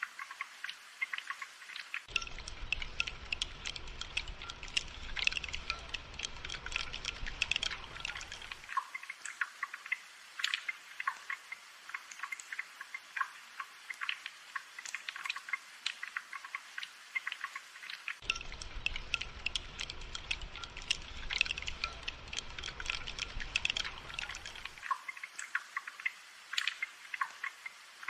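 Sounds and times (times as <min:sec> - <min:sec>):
rain dripping and pattering: 0:00.0 - 0:28.0.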